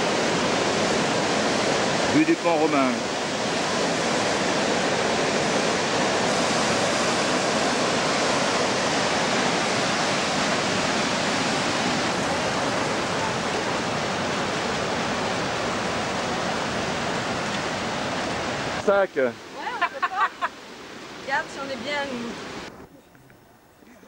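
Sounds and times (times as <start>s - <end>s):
mountain torrent rushing: 0.0s - 24.0s.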